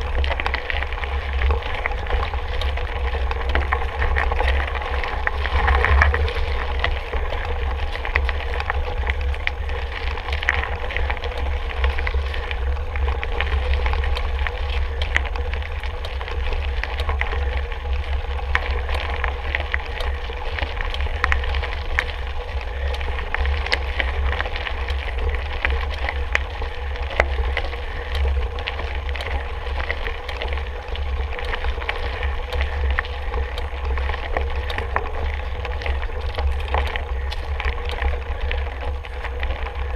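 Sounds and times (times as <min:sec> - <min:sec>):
bike clicks and rattles: 0:00.0 - 0:39.9
bike tyre noise: 0:00.0 - 0:39.9
wind rumble on microphone: 0:00.0 - 0:39.9.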